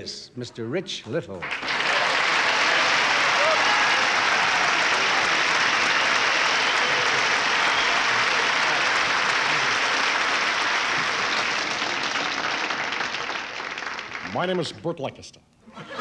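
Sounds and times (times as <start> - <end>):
audience applauding: 1.4 - 14.6.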